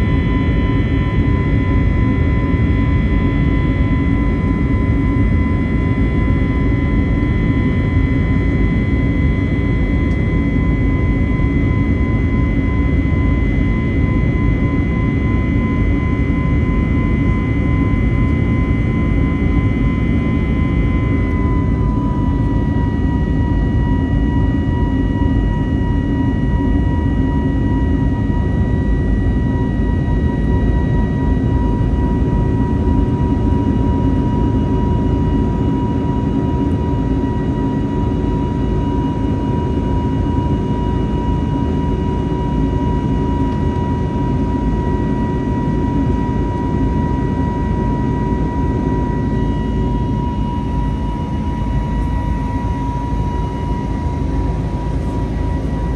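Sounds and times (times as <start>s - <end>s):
high engine whine: 0.0s - 55.9s
jet engine rumble in cabin: 0.0s - 55.9s.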